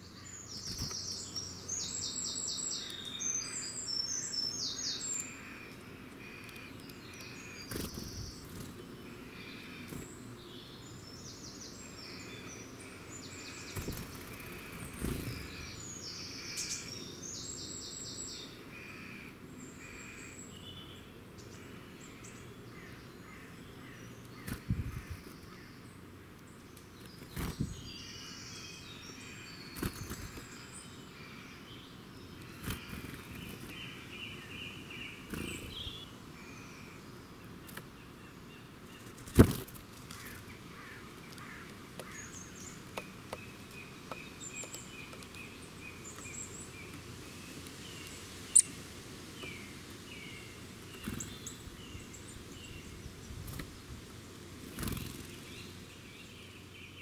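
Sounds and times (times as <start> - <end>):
outdoor background hiss: 0.0 - 57.0
small birds singing: 0.0 - 57.0.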